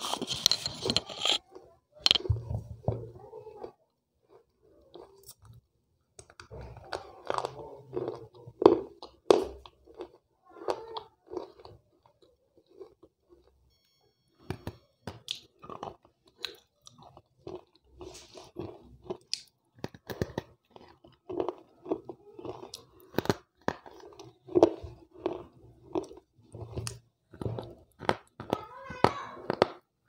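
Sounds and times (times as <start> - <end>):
crunching chewing: 3.6 - 13.6, 14.4 - 29.9.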